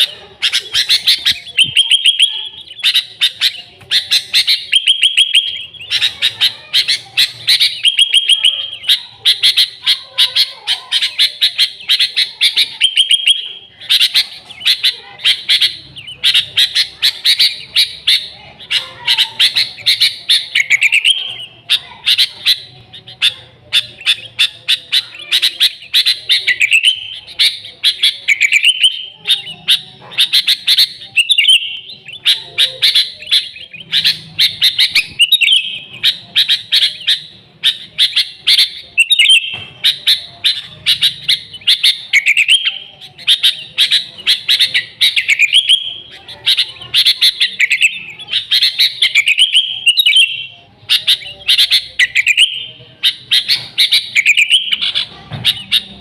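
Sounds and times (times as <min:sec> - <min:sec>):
bird singing rapid chirps: 0:00.0 - 0:56.0.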